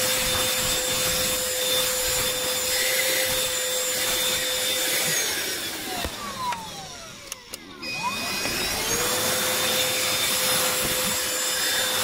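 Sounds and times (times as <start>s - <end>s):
handheld vacuum cleaner whining: 0.0s - 12.0s.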